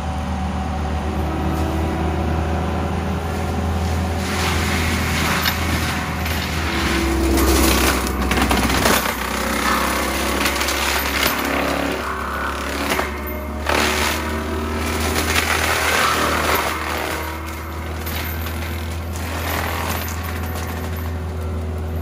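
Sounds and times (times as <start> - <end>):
diesel engine running under load: 0.0 - 22.0
mulcher grinding brush: 2.7 - 22.0
woody stems cracking: 3.3 - 22.0.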